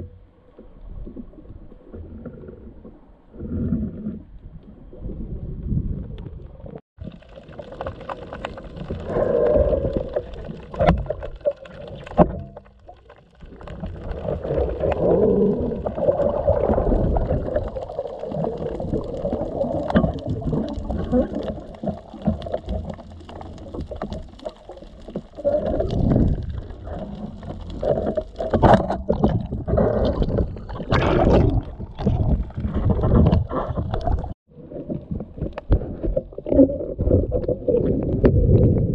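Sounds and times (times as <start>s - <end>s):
underwater rumbling and sloshing: 0.0s - 38.9s.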